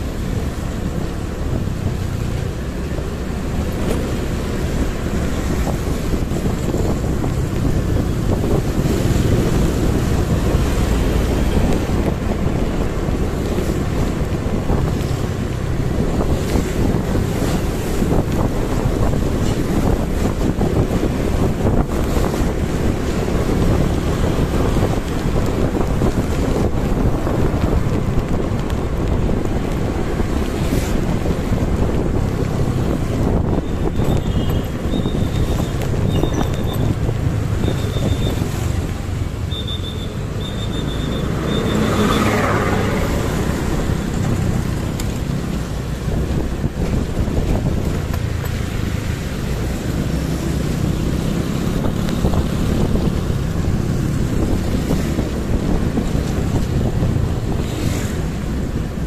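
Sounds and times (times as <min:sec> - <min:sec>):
road noise on wet street: 0:00.0 - 0:59.0
wind on microphone: 0:00.0 - 0:59.0.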